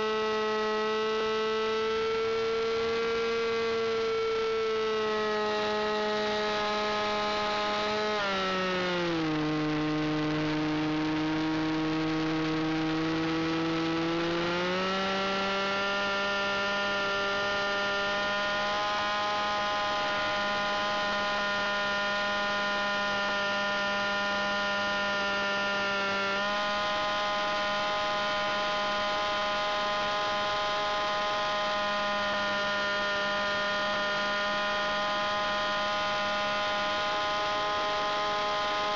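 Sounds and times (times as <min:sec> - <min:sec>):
model plane engine: 0:00.0 - 0:38.9.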